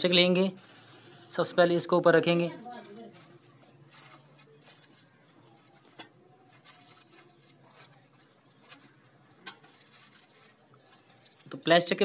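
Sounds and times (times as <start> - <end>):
plastic sheet crinkling: 0.5 - 1.8, 2.6 - 12.0.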